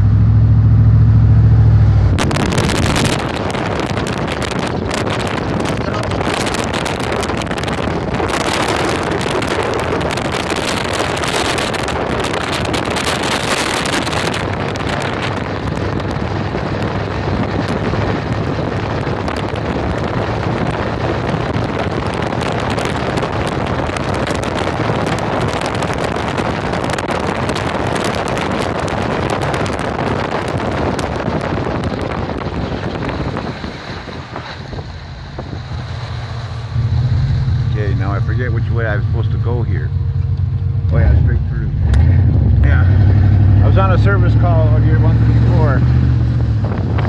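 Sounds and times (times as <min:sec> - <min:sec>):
tyres on wet road: 0:00.0 - 0:47.0
vehicle drone: 0:00.0 - 0:47.0
wind rushing over microphone: 0:00.0 - 0:47.0.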